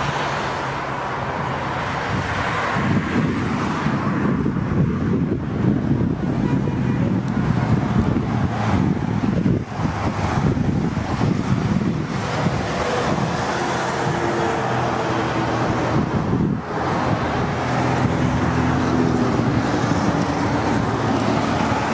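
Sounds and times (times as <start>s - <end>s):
wind noise on microphone: 0.0s - 21.9s.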